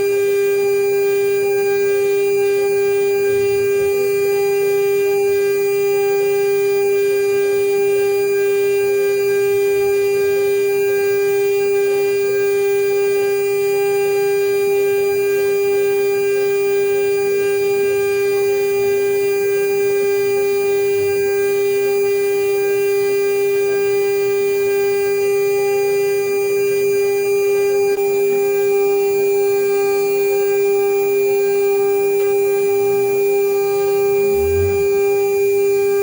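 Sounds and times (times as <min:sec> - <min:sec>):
cnc router spindle whine: 0:00.0 - 0:36.0.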